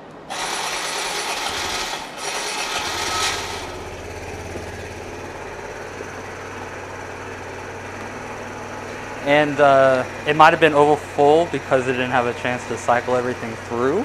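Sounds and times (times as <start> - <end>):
motorcycle engine starting and idling: 0.2 - 14.0.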